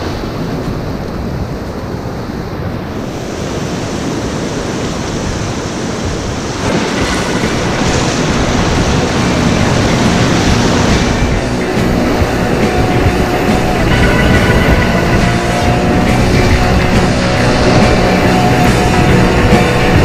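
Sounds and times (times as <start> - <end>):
whitewater rushing: 0.0 - 20.0.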